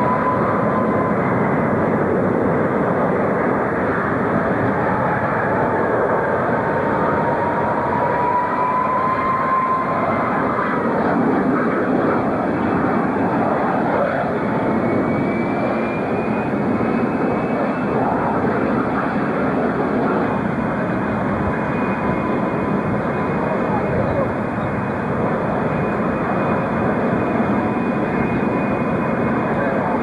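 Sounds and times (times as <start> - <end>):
faint high rising whine: 0.0 - 30.0
jet engines roaring: 0.0 - 30.0
rising engine whine: 0.0 - 30.0.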